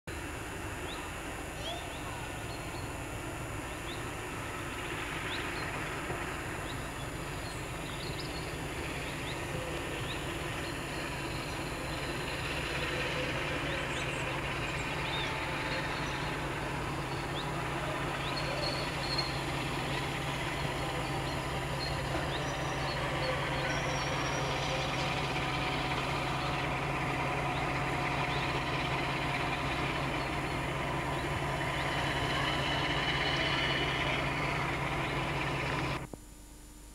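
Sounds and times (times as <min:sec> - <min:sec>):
diesel locomotive engine drone: 0:00.0 - 0:36.1
birds chirping: 0:00.8 - 0:36.0.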